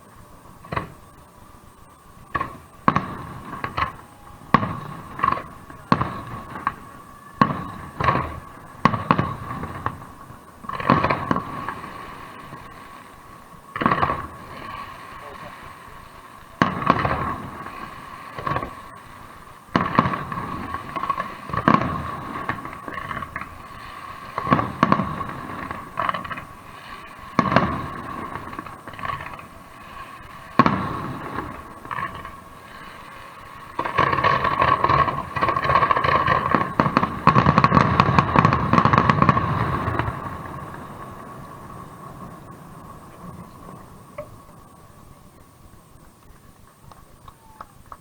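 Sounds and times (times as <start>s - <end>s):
fireworks crackling: 0.0s - 48.0s
fireworks exploding: 0.0s - 48.0s.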